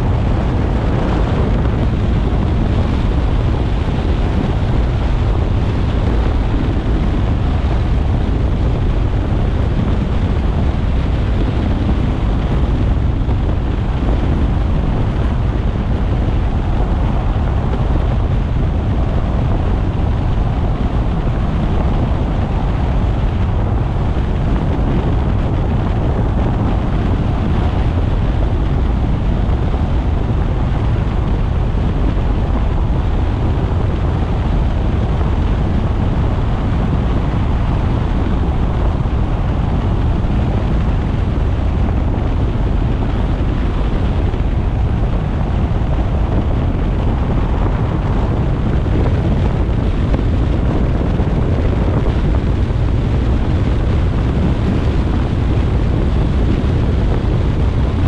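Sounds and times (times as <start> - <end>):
car road rumble: 0.0 - 58.0.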